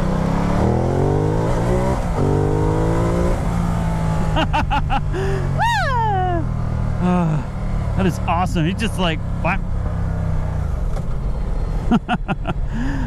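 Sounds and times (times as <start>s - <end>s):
motorcycle engine accelerating: 0.0s - 12.5s.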